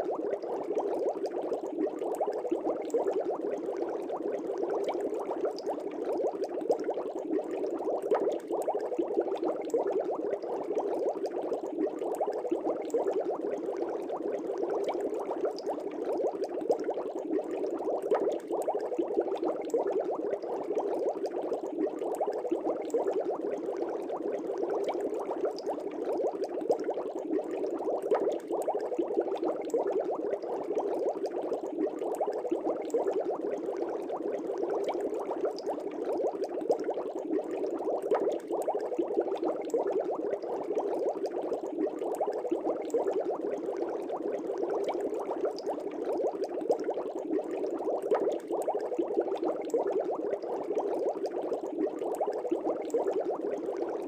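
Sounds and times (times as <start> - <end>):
aquarium water bubbling: 0.0 - 54.0.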